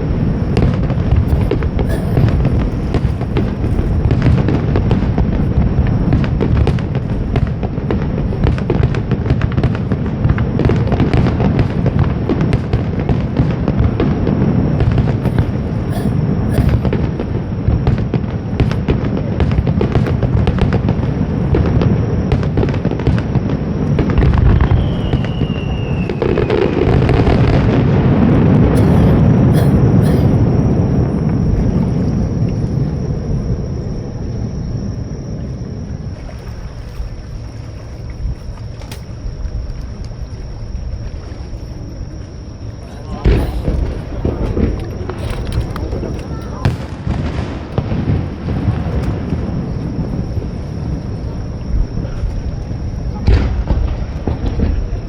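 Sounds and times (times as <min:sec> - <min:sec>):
fireworks booming and crackling: 0:00.0 - 0:36.3, 0:36.9 - 0:55.0
falling firework whistle: 0:00.4 - 0:09.9, 0:10.6 - 0:36.7, 0:41.7 - 0:55.0.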